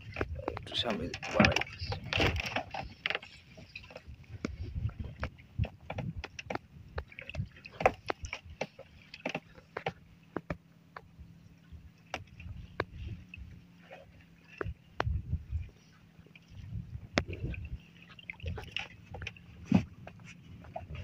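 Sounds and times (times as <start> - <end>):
water sloshing: 0.0 - 21.0.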